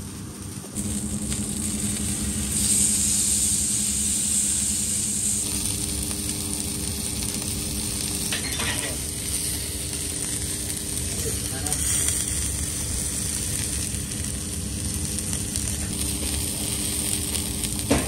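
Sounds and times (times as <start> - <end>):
steady low hum: 0.0 - 18.0
steak sizzling on a griddle: 0.8 - 18.0.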